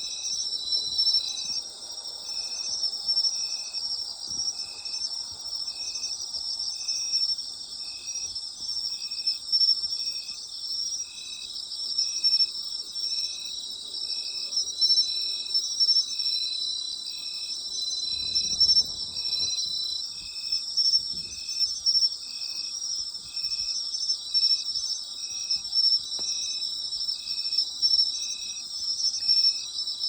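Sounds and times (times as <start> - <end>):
insects trilling: 0.0 - 30.0
steady high insect tone: 0.0 - 30.0.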